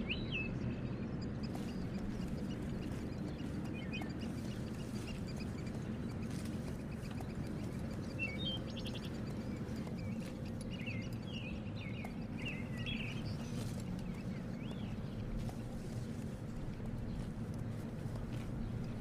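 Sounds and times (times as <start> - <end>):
outdoor ambience: 0.0 - 19.0
small birds chirping: 0.0 - 19.0.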